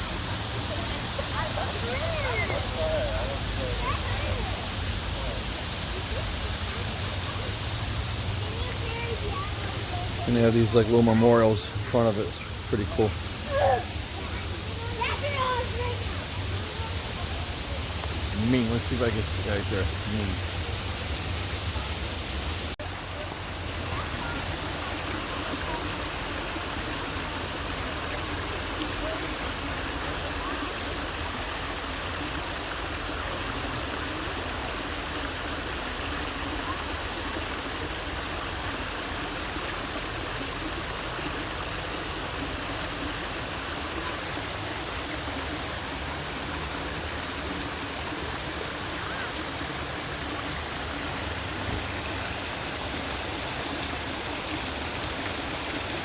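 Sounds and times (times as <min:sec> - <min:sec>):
water falling and rushing: 0:00.0 - 0:56.0.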